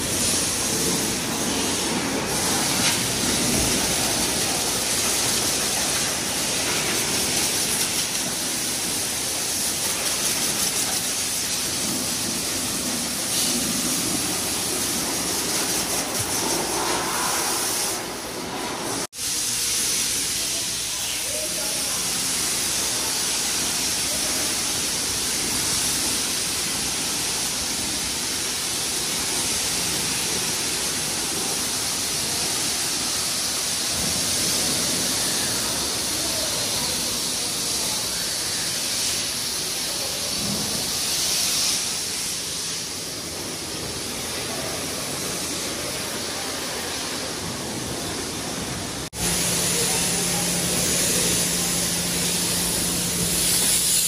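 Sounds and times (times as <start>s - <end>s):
pressure washer jet hissing: 0.0s - 54.0s.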